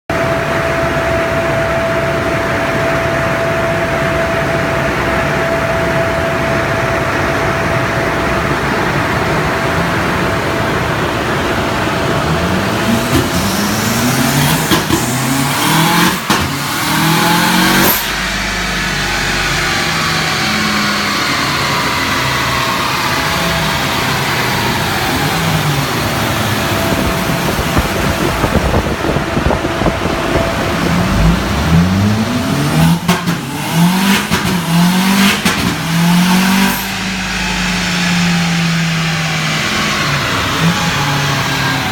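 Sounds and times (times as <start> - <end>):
car engine accelerating: 0.1 - 41.9
sharp exhaust cracks at shifts: 0.1 - 41.9.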